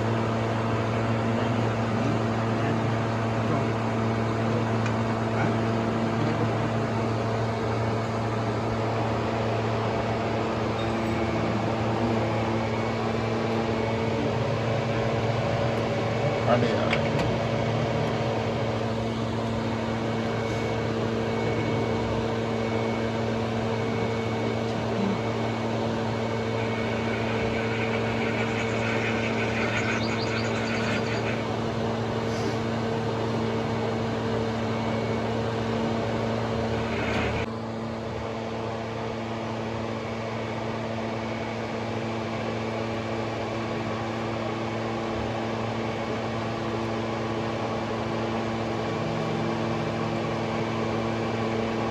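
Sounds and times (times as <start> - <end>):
machine hum with tones: 0.0 - 51.9.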